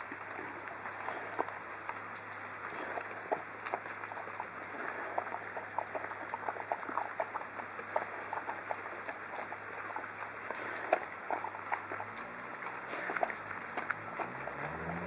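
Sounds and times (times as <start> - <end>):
dog chewing and smacking: 0.0 - 15.0.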